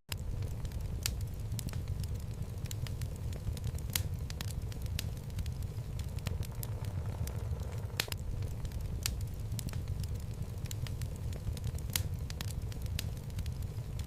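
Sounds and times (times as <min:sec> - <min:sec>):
fire crackling and popping: 0:00.1 - 0:14.0
low rumble of flame: 0:00.1 - 0:14.0.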